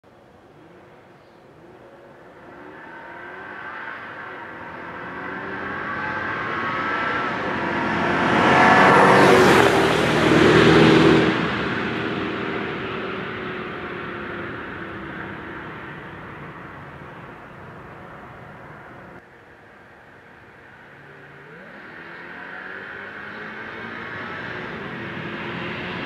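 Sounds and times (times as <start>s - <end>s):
car engine accelerating past: 1.6s - 19.2s, 21.0s - 26.0s.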